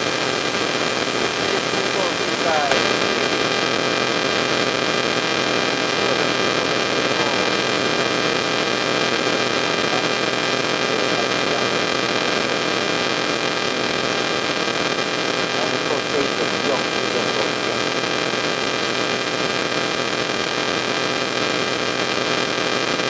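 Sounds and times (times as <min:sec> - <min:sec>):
electrical hum and hiss: 0:00.0 - 0:23.0.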